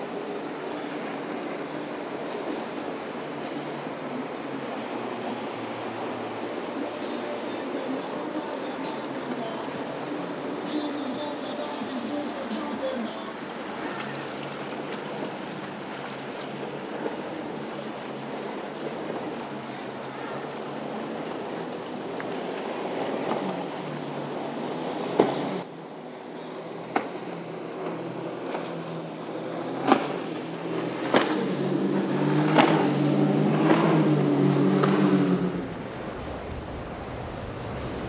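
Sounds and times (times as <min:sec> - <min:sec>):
boat engines droning: 0:00.0 - 0:38.0
waves and surf: 0:00.0 - 0:38.0.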